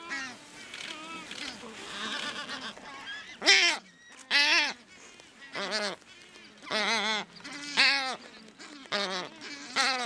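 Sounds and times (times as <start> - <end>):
albatross calls: 0.0 - 4.8, 5.4 - 10.0
colony of birds calling: 0.0 - 10.0.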